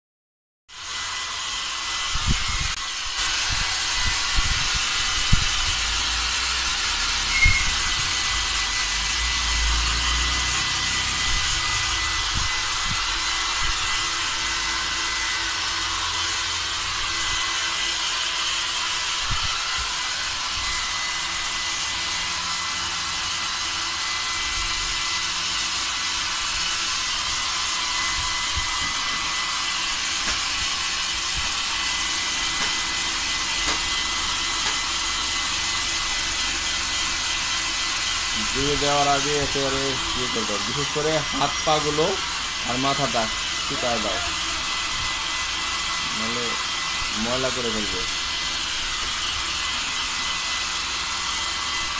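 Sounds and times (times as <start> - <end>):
hair dryer running: 0.7 - 51.9.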